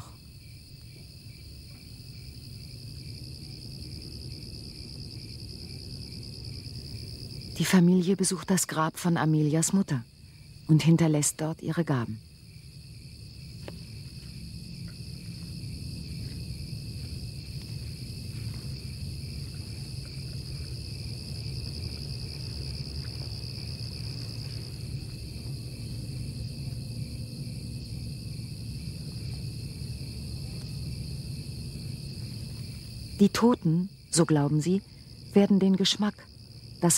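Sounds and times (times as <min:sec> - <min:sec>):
crickets chirping: 0:00.0 - 0:36.9.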